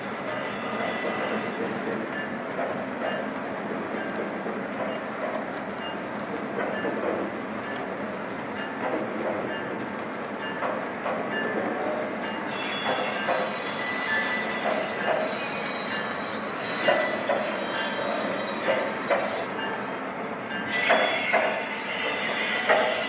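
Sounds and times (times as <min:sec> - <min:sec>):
model trains rolling rumble: 0:00.0 - 0:23.0.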